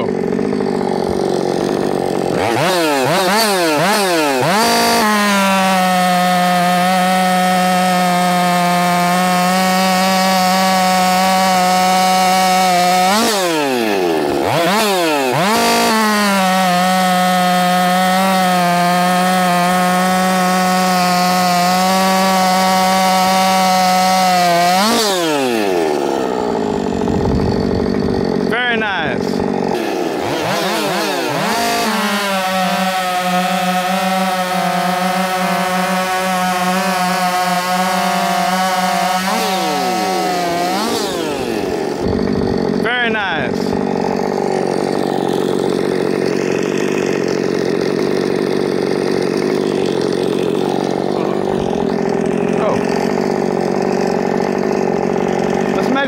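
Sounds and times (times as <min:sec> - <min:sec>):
chainsaw cutting wood: 0:00.0 - 0:56.0
chainsaw idling and revving: 0:00.0 - 0:56.0.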